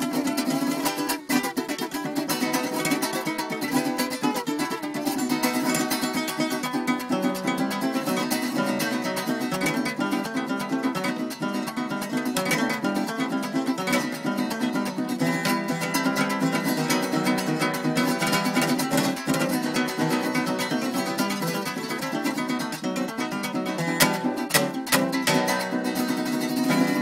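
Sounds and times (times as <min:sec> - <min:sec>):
small guitar picking melody: 0:00.0 - 0:27.0
small guitar strummed rhythm: 0:00.0 - 0:27.0.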